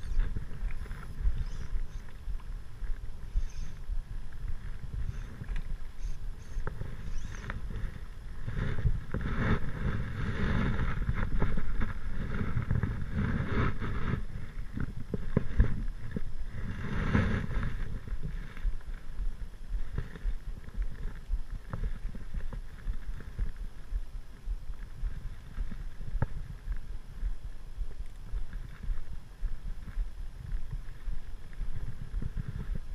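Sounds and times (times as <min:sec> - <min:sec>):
wind rumbling on microphone: 0:00.0 - 0:32.9.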